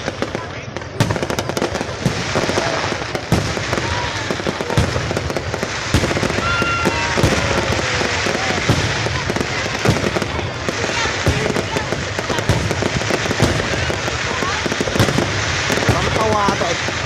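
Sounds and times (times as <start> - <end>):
fireworks crackling and banging: 0.0 - 17.0
whistling fireworks: 0.0 - 17.0.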